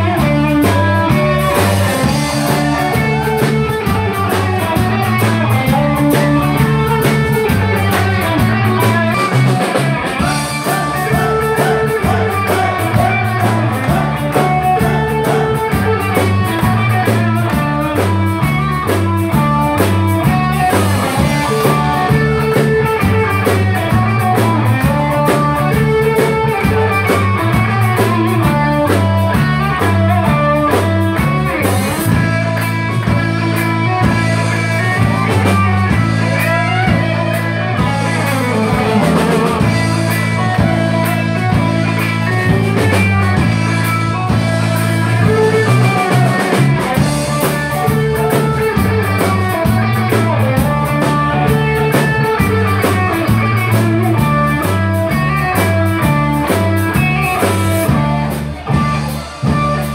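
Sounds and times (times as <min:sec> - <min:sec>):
bass guitar line: 0:00.0 - 0:59.9
drum kit beat: 0:00.0 - 0:59.9
electric guitar: 0:00.0 - 0:59.9.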